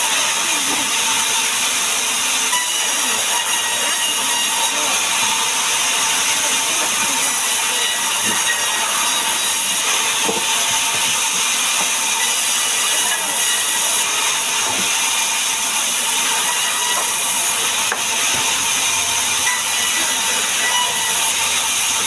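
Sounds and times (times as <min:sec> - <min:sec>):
band saw cutting through log: 0:00.0 - 0:22.0.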